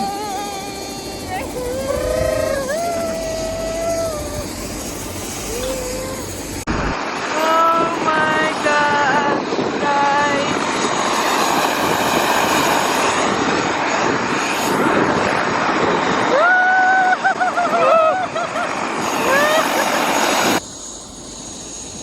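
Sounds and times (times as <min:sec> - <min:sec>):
helicopter engine and rotor: 0:00.0 - 0:16.4, 0:17.3 - 0:22.0.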